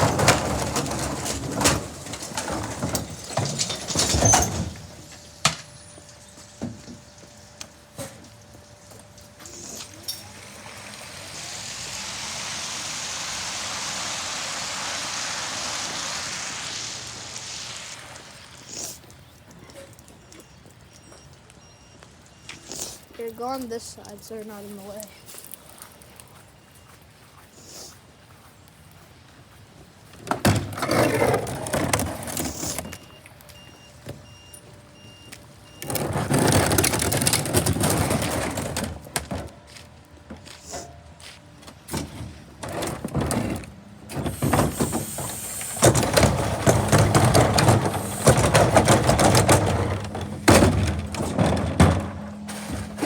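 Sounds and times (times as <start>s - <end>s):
garbage truck mechanical noise: 0.0s - 53.0s.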